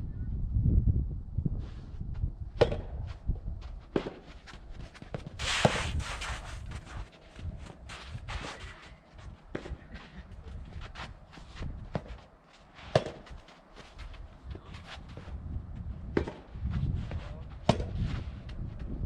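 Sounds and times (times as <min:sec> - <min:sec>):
rushing wind gust: 0:00.0 - 0:03.8, 0:04.7 - 0:12.0, 0:14.2 - 0:19.0
wind buffeting microphone: 0:00.0 - 0:12.2, 0:13.0 - 0:19.0
short knocks and scuffs: 0:02.1 - 0:19.0.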